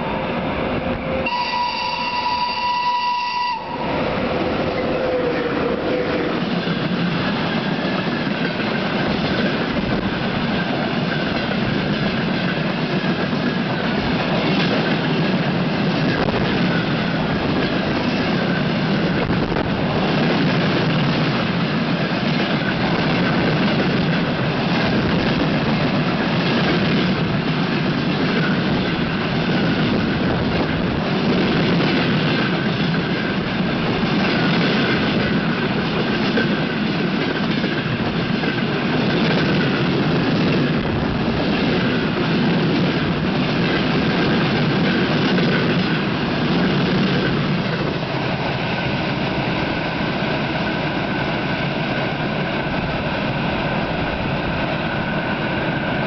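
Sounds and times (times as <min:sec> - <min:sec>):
train wheels roaring on rails: 0:00.0 - 0:56.0.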